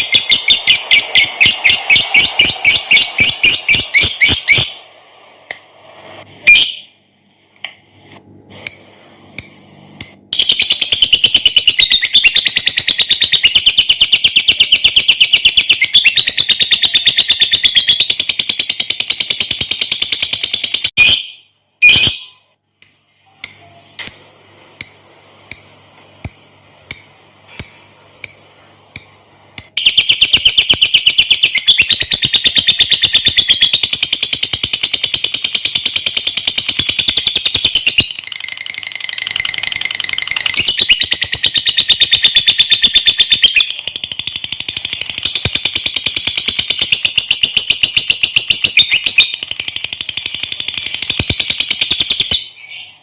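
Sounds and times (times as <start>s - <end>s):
lovebird chirping and trilling: 0.0s - 4.8s, 6.4s - 6.9s, 8.6s - 53.0s.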